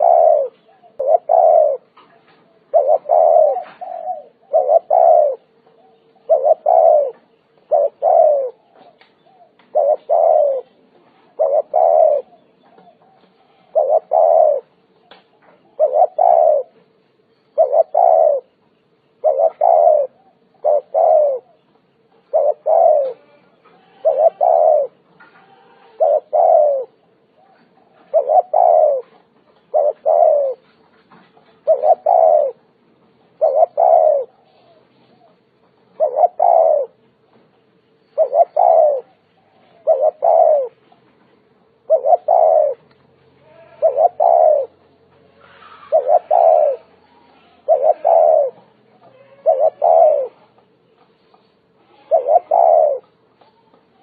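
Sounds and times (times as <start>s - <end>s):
dove cooing: 0.0s - 16.9s, 17.5s - 54.0s.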